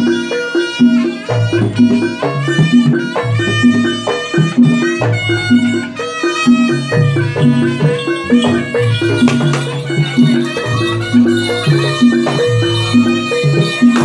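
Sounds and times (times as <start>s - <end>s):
percussion ensemble music: 0.0s - 14.0s.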